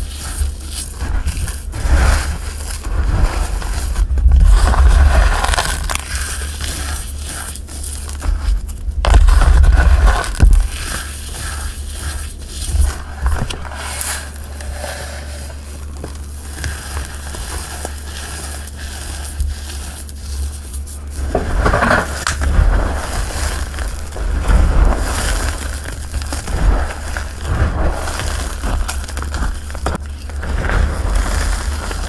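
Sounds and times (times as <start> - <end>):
hands crushing chalk: 0.0 - 32.0.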